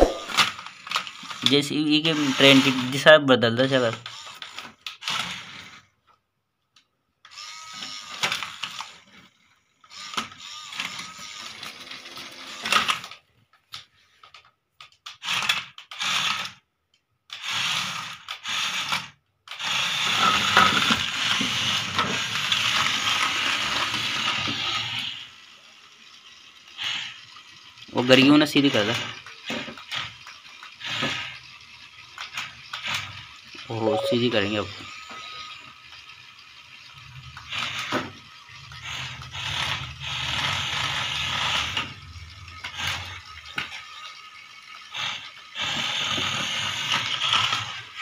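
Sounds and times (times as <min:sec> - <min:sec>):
toy motor and gears whirring: 0:00.0 - 0:06.0, 0:07.2 - 0:13.2, 0:13.8 - 0:16.7, 0:17.3 - 0:48.0.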